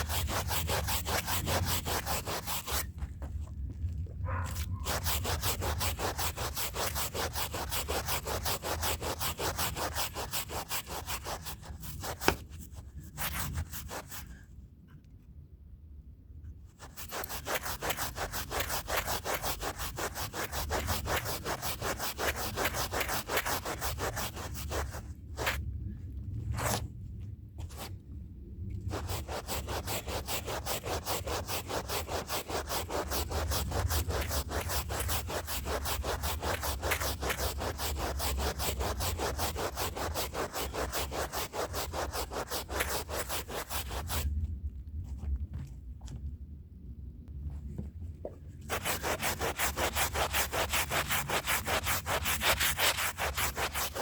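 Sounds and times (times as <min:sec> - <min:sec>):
hand brush scrubbing a rug: 0:00.0 - 0:14.3, 0:16.8 - 0:25.6, 0:28.8 - 0:44.4, 0:48.6 - 0:54.0.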